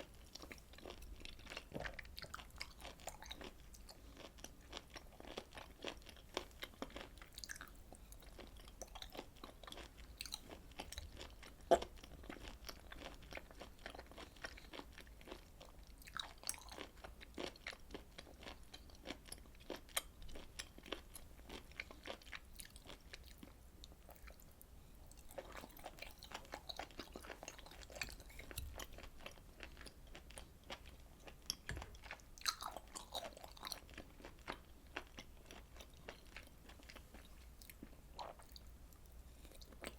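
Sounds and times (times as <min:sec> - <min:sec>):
close chewing: 0:00.0 - 0:24.4, 0:25.1 - 0:39.9.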